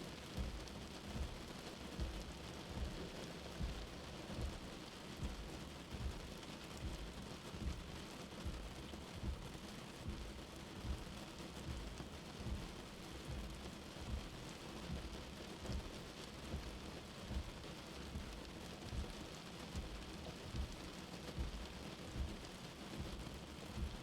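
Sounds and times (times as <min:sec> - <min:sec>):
steady rain: 0:00.0 - 0:24.0
low heartbeat thumping: 0:00.4 - 0:24.0.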